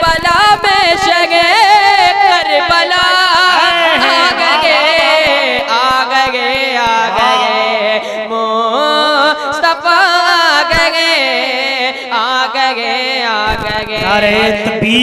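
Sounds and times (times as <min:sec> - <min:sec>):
boy singing into a microphone: 0:00.0 - 0:15.0.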